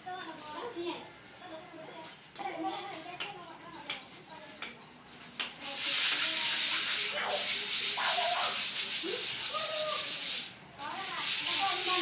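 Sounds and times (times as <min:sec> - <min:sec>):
broom sweeping a floor: 0:00.0 - 0:12.0.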